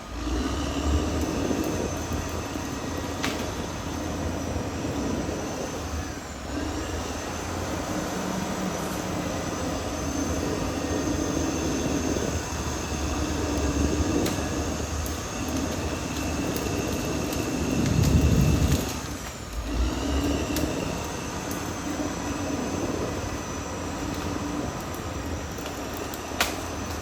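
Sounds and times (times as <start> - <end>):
bulldozer diesel engine running: 0.0 - 27.0
thin high whine: 0.0 - 27.0.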